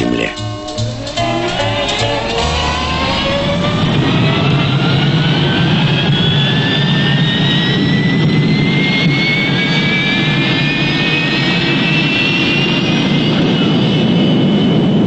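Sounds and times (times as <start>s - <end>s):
jet engine heavy rumble: 0.0s - 15.0s
jet engine turbine whine: 0.0s - 15.0s.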